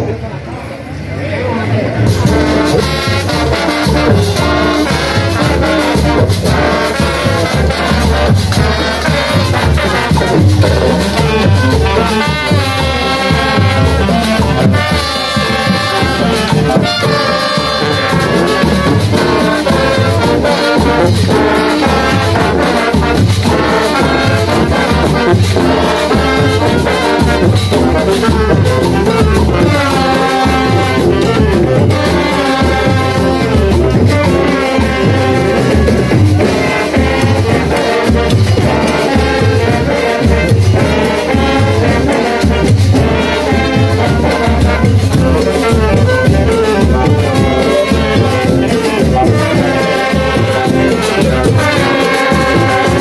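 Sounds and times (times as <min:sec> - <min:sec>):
marching band playing: 0:02.0 - 0:53.0.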